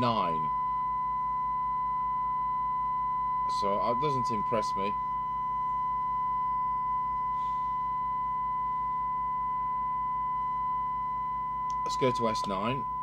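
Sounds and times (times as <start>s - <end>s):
low hum: 0.0s - 13.0s
steady test tone from loudspeaker: 0.0s - 13.0s.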